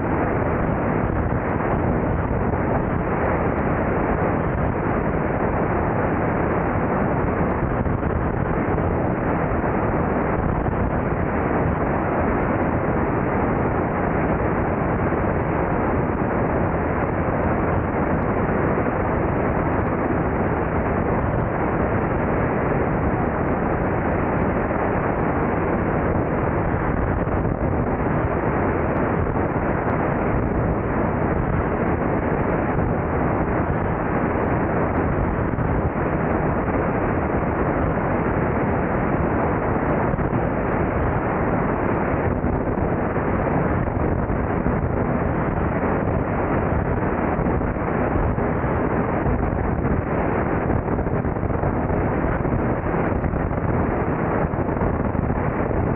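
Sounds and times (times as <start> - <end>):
plane engine and propeller: 0.0 - 55.9
wind rushing over camera: 0.0 - 55.9.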